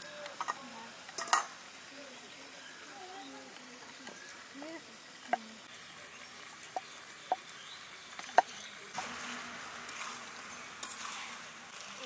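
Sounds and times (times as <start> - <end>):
dry leaves burning hiss: 0.0 - 12.0.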